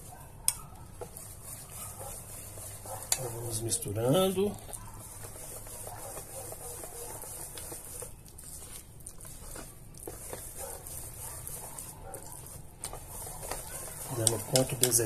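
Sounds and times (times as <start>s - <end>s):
whisk stirring batter: 0.0s - 15.0s
whisk clicking on metal bowl: 0.9s - 8.2s, 9.2s - 15.0s.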